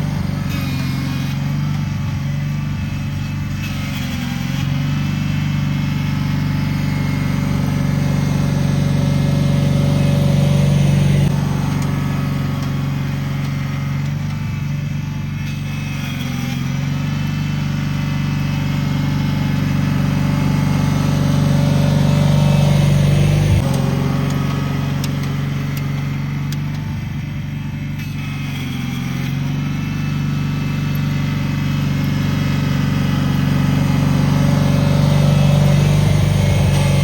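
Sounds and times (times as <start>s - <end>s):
garden tractor engine running: 0.0s - 37.0s.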